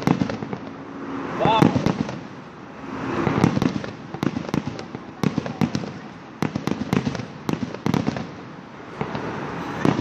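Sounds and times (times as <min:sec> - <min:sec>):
fireworks bangs: 0:00.0 - 0:10.0
low continuous rumble: 0:00.0 - 0:10.0.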